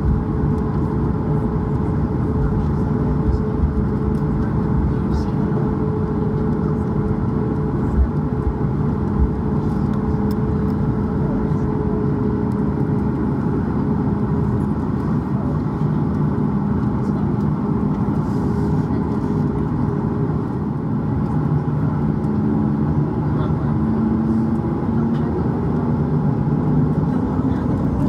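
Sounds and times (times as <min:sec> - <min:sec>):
jet engines humming in cabin: 0:00.0 - 0:28.0.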